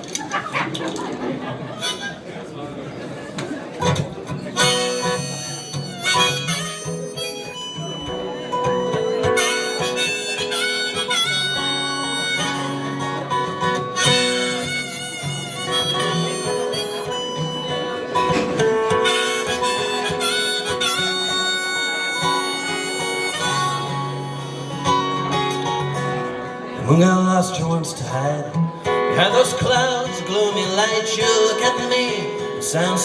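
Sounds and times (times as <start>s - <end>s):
guitar accompaniment: 0.0s - 2.3s, 3.3s - 33.0s
harmonica melody: 1.8s - 2.1s, 3.9s - 27.6s, 28.4s - 33.0s.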